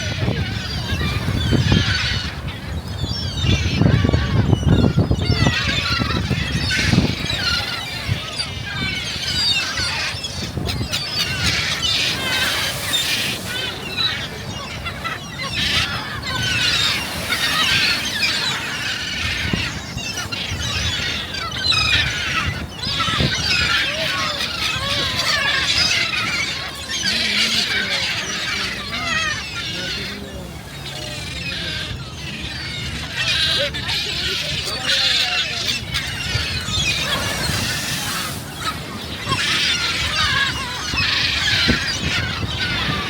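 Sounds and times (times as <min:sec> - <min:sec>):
flock of gulls calling: 0:00.0 - 0:43.0.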